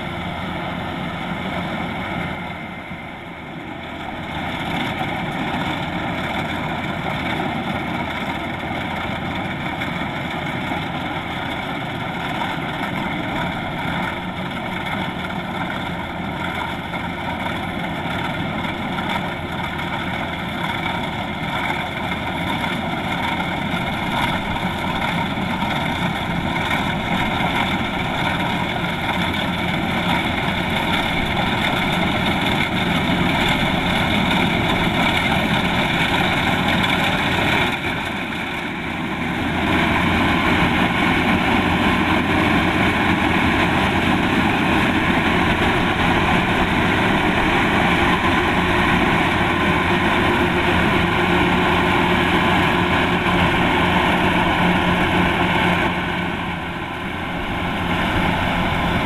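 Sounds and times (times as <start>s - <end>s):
combine harvester engine running: 0.0s - 59.0s.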